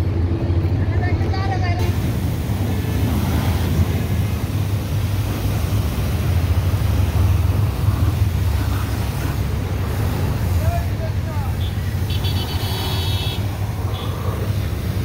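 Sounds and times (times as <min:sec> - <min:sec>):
pressure washer drone: 0:01.8 - 0:15.0
water jet hissing on car: 0:01.8 - 0:15.0.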